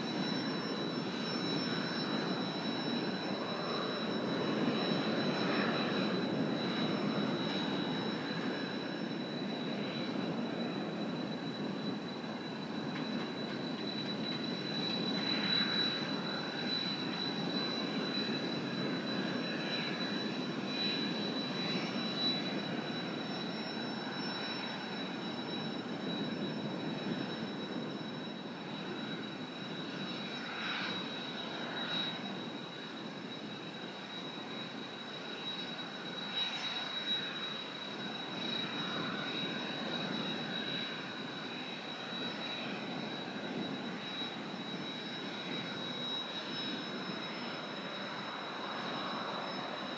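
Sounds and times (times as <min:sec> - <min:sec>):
distant jet engine rumble: 0:00.0 - 0:49.9.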